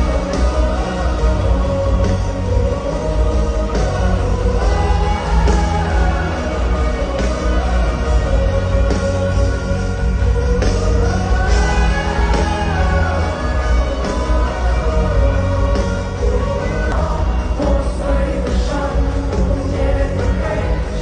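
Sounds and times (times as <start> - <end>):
live instrumental rock music: 0.0 - 21.0.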